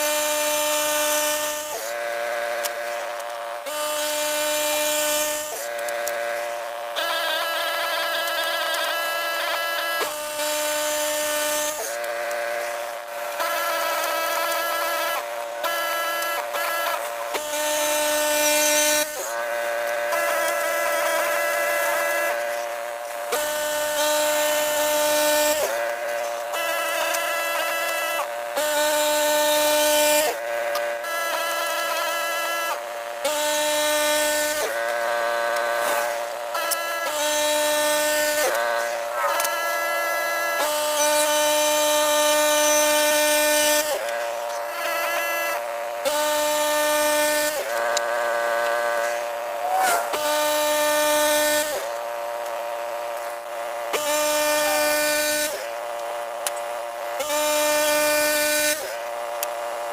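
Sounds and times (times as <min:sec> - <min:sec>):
bandsaw whining and sawing: 0:00.0 - 0:59.9.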